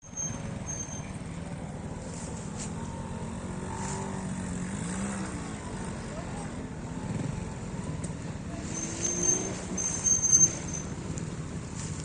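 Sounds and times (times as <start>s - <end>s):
motorcycle engine at low revs: 0.1s - 12.0s.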